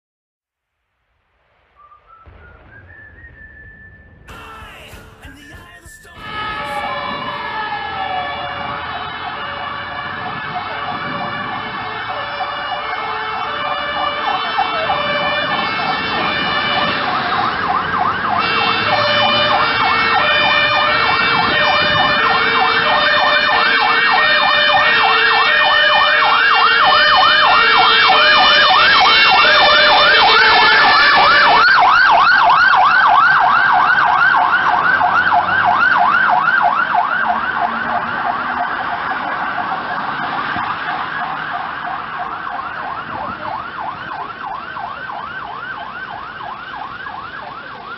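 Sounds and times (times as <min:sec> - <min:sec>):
two-tone siren horn: 0:06.2 - 0:46.2.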